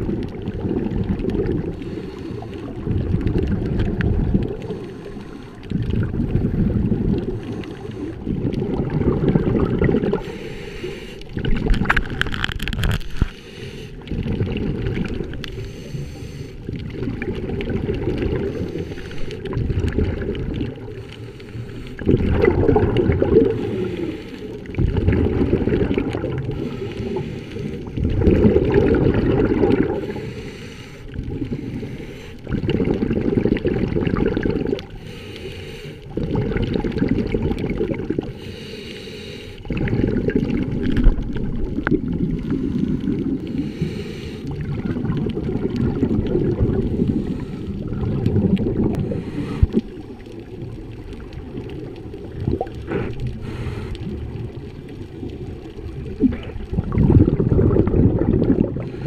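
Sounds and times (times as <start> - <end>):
underwater regulator exhaust bubbles: 0.0 - 59.0.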